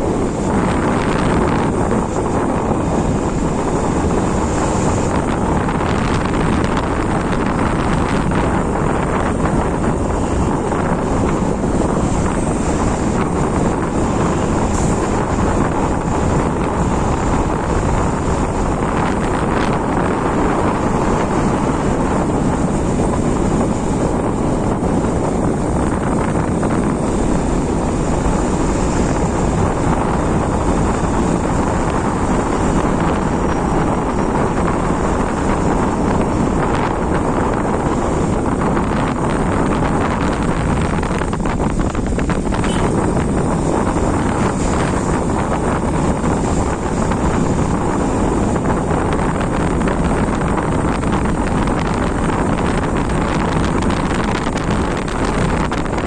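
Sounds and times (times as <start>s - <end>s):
motorbike running: 0.0s - 56.0s
road noise: 0.0s - 56.0s
wind rushing over microphone: 0.0s - 56.0s.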